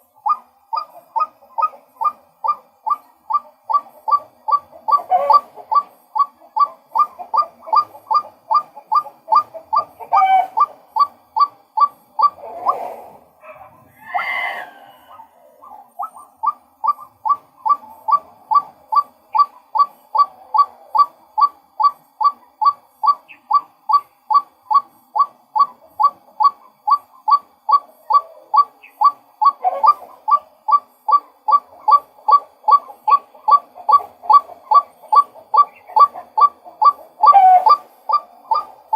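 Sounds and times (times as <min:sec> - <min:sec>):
rough noisy bird calls: 0:00.0 - 0:38.9.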